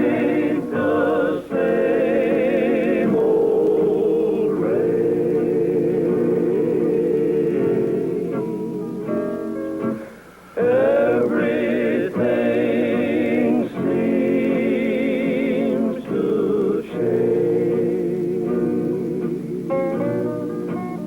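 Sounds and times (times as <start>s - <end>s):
male vocal group singing chords: 0.0s - 9.3s, 10.6s - 19.7s.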